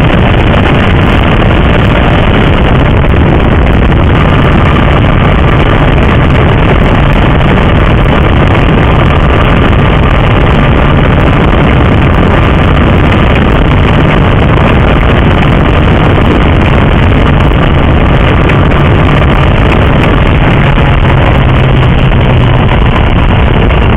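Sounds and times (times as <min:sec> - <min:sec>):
motorcycle engine cruising: 0:00.0 - 0:23.9
wind rush: 0:00.0 - 0:23.9.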